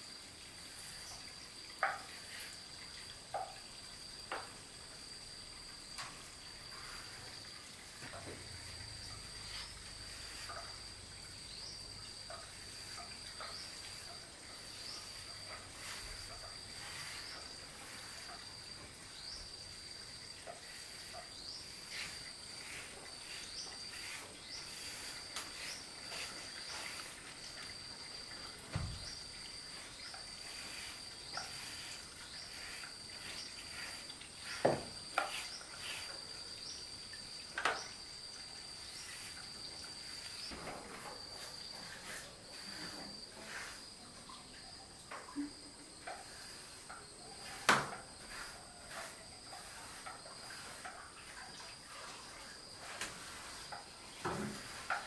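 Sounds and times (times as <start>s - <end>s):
insects chirring: 0.0s - 55.0s
faint knocks and scrapes: 0.6s - 4.8s, 5.6s - 55.0s.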